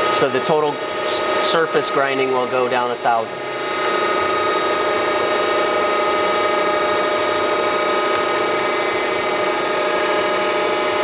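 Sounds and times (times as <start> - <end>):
surface grinder humming: 0.0 - 11.0.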